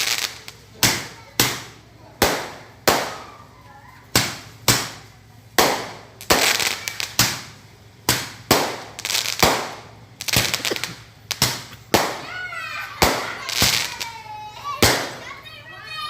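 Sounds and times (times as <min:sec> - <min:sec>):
fireworks bangs: 0:00.0 - 0:15.7.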